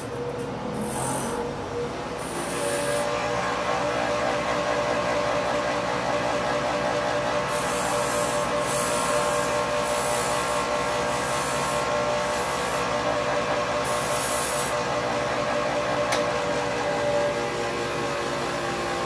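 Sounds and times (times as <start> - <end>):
machine motor droning: 0.6 - 19.0.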